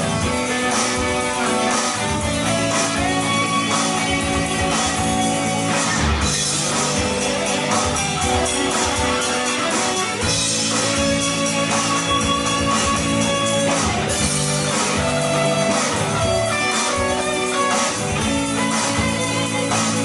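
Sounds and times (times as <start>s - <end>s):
electric guitar rock chords: 0.0s - 20.0s.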